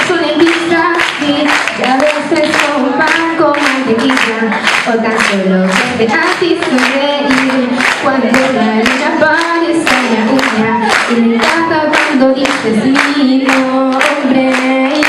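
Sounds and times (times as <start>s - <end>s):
girl singing into microphone: 0.0s - 15.0s
steady clap beat: 0.0s - 15.0s.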